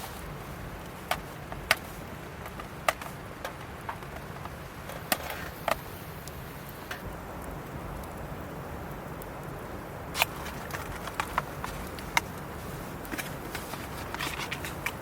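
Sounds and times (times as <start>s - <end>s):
firewood crackling: 0.0s - 15.0s
low background noise: 0.0s - 15.0s.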